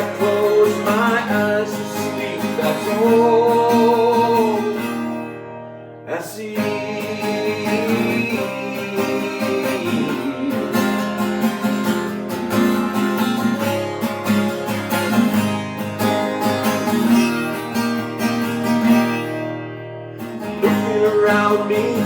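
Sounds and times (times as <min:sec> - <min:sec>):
acoustic guitar playing chords: 0:00.0 - 0:22.0.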